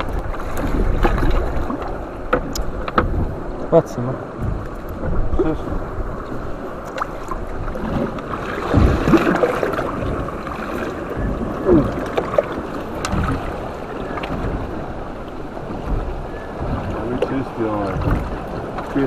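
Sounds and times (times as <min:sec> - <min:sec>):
water lapping against boat hull: 0:00.0 - 0:19.0
wind on microphone: 0:00.0 - 0:19.0.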